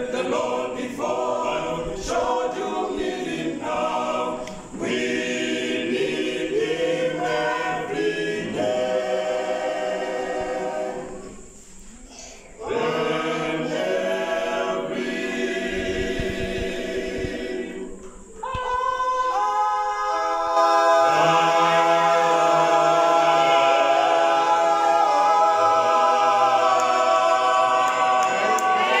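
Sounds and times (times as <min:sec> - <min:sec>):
male a cappella group singing: 0:00.0 - 0:11.6, 0:12.6 - 0:29.0.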